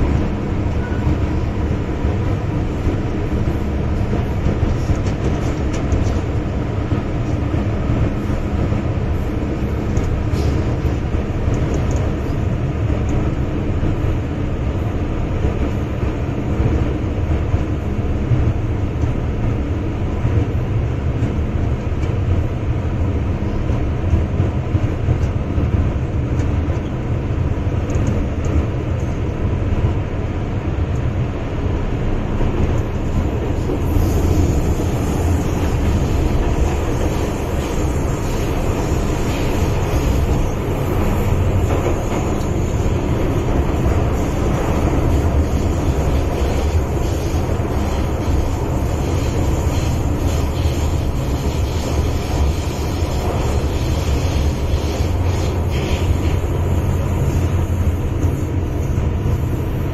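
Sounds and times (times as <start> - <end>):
train carriage rumble: 0.0 - 59.9.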